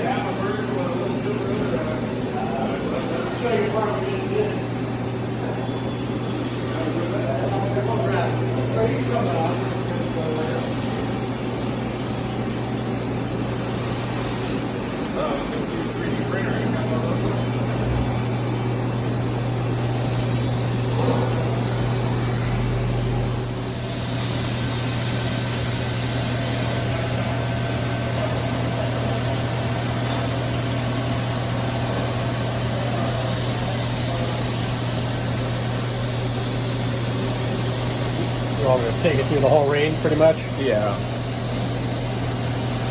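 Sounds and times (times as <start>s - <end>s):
lathe mechanical hum: 0.0s - 42.9s.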